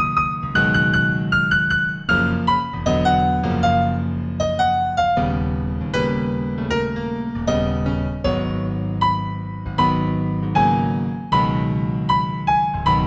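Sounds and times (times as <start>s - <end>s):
piano piece: 0.0s - 13.0s.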